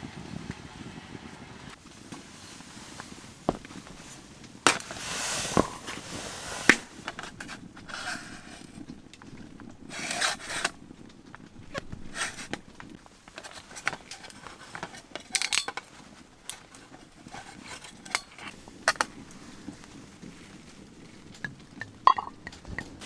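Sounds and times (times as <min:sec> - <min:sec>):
rustling and scraping: 0:01.7 - 0:23.0.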